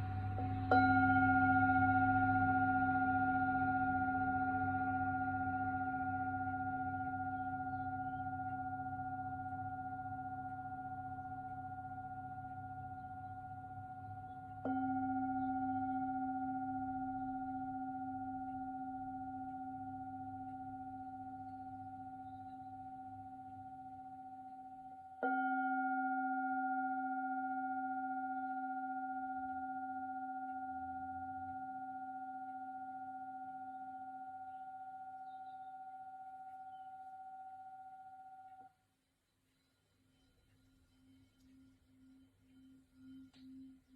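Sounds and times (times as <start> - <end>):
singing bowl struck and ringing: 0.0 - 38.7, 40.9 - 43.9.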